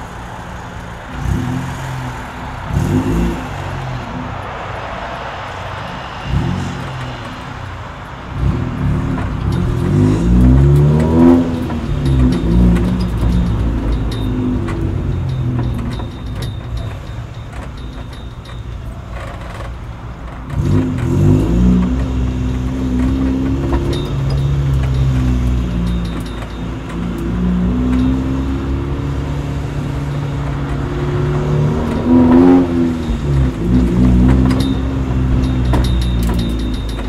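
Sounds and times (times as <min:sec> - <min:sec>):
car engine and exhaust: 0:00.0 - 0:37.0.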